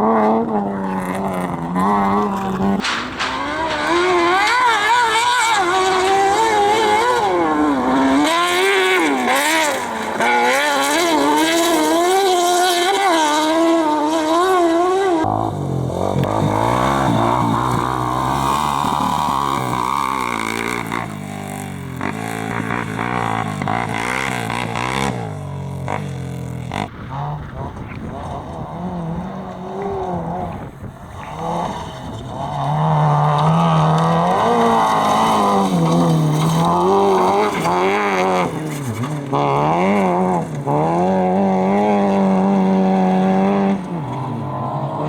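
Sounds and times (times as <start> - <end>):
competition engine revving: 0.0 - 45.0
lower-pitched engine under load: 0.0 - 45.0.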